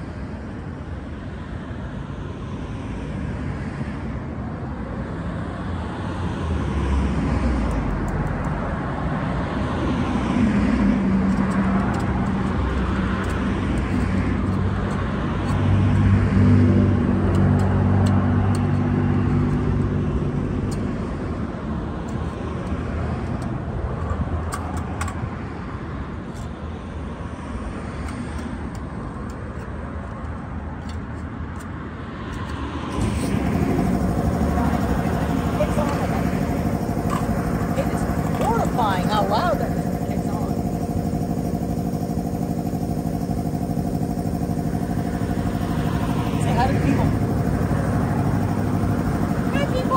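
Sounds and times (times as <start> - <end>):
vehicle engine hum: 0.0 - 49.9
cars passing by: 1.0 - 40.5, 45.4 - 49.9.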